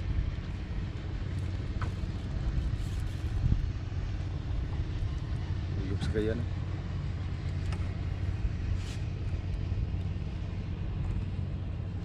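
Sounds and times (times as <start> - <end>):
small boat engine running: 0.0 - 12.0.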